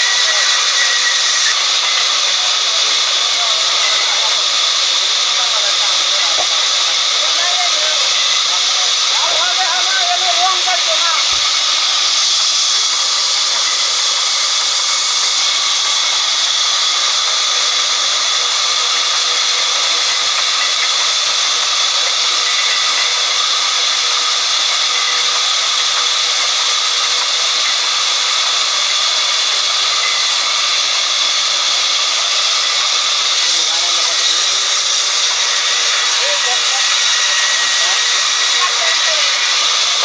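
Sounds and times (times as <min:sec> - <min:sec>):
band saw hissing: 0:00.0 - 0:40.0.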